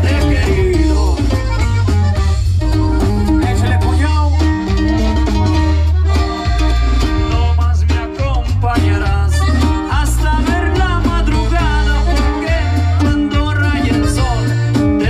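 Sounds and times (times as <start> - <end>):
person singing: 0.0 - 1.7, 3.2 - 15.0
accordion melody: 0.0 - 15.0
drums: 0.0 - 15.0
electric bass: 0.0 - 15.0
guitar: 0.0 - 15.0.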